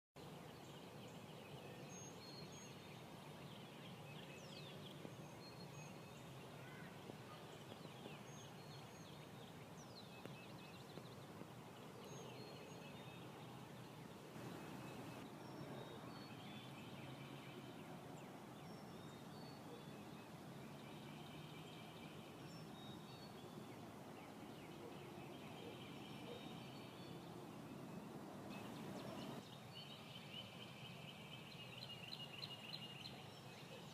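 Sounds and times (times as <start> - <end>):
birds calling and trilling: 0.9 - 18.0, 18.6 - 33.9.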